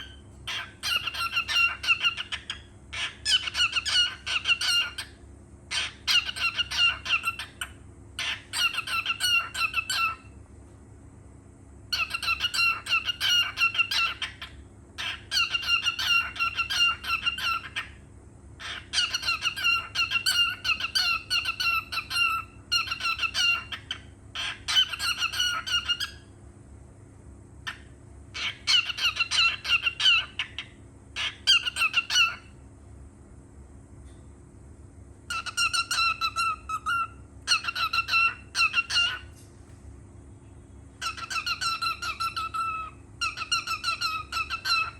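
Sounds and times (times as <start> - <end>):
cockatiel chirping: 0.0 - 10.3, 11.9 - 18.0, 18.6 - 26.3, 27.6 - 32.5, 35.3 - 39.4, 41.0 - 44.9.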